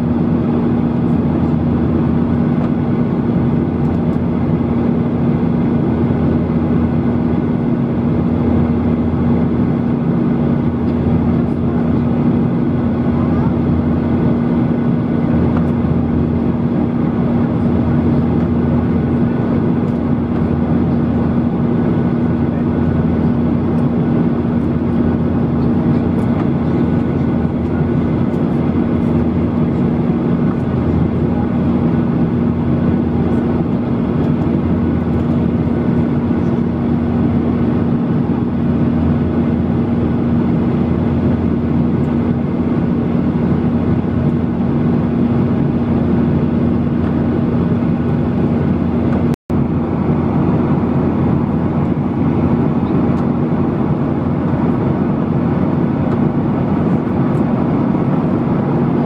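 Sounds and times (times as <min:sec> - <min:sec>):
jet engines droning: 0:00.0 - 0:59.0
steady low hum: 0:00.0 - 0:59.0.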